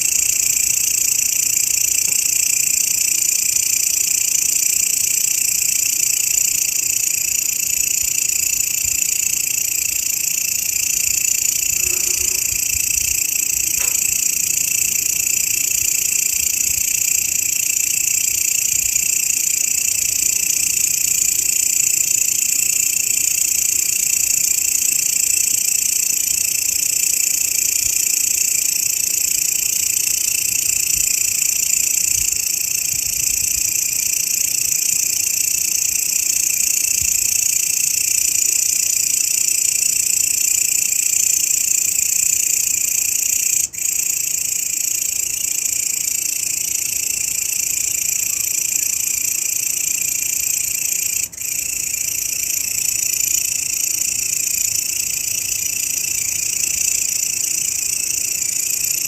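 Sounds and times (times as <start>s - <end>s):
grasshopper buzzing trill: 0.0s - 59.0s.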